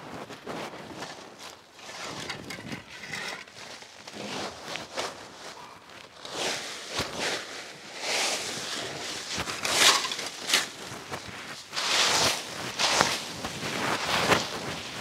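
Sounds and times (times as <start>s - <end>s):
rake dragged through dry leaves: 0.1s - 15.0s.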